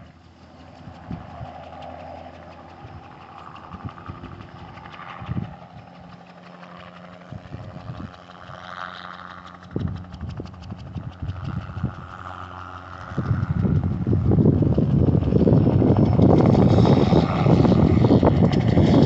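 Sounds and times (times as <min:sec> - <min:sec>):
helicopter engine and rotor hum: 0:00.0 - 0:19.0.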